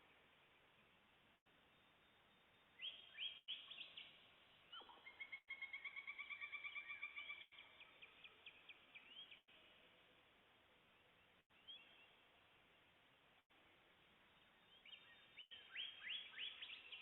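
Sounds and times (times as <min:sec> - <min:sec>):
songbirds singing: 0:01.4 - 0:09.7, 0:10.8 - 0:17.0.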